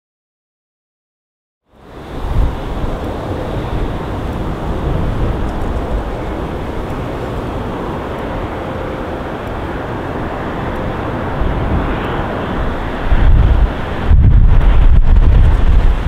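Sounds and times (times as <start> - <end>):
jet engines at take-off power: 1.7 - 16.0
wind buffeting microphone: 1.8 - 16.0.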